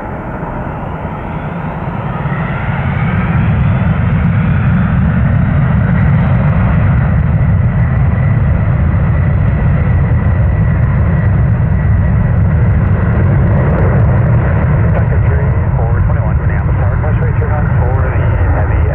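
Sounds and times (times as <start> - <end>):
high jet whine: 0.0 - 18.9
jet engines rumbling: 0.0 - 18.9.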